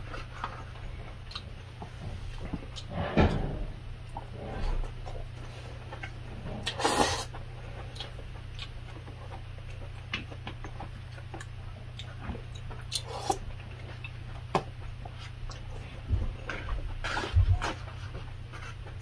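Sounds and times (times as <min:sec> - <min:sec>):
person chewing food: 0:00.0 - 0:02.9, 0:04.0 - 0:19.0
low steady hum: 0:00.0 - 0:19.0.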